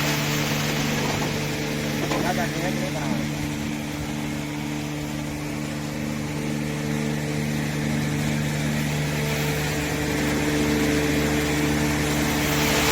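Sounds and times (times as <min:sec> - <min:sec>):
engine humming: 0:00.0 - 0:12.9.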